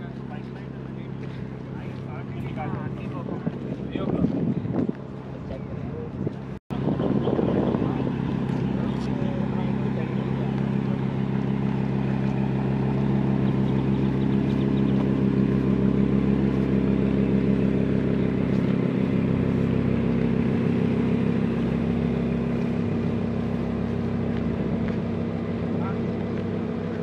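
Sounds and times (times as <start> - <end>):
car engines idling low drone: 0.0 - 27.0.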